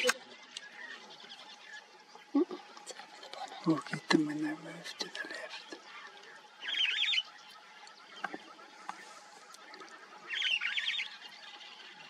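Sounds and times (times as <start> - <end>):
bird singing warbled phrases: 0.0 - 12.0.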